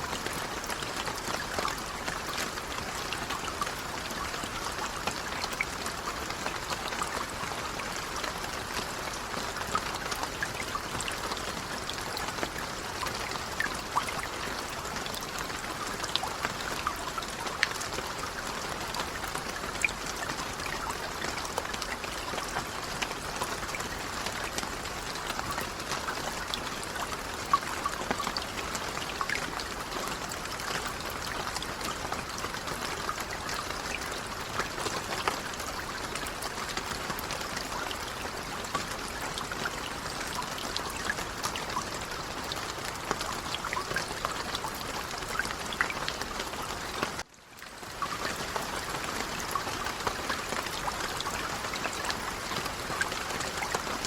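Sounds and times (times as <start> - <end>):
light rain pattering: 0.0 - 54.0.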